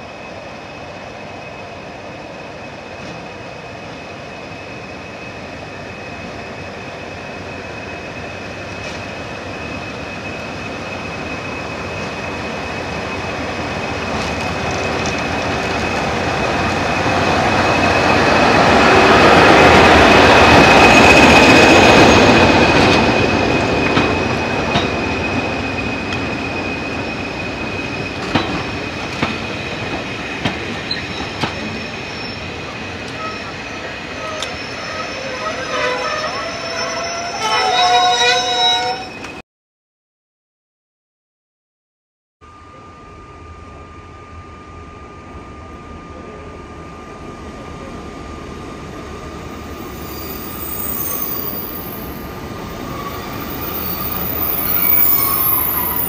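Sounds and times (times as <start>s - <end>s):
diesel locomotive engine: 0.0s - 39.4s, 42.5s - 56.0s.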